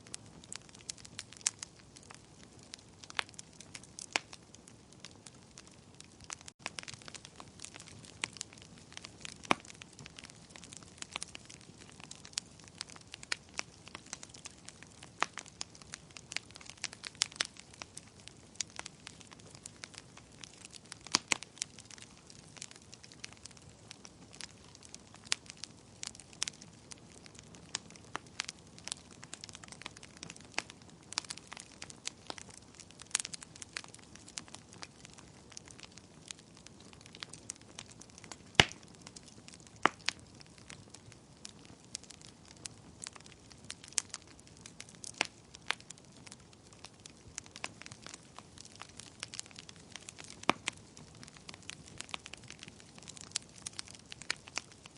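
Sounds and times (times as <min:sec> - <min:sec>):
fire crackling and popping: 0:00.0 - 0:54.9.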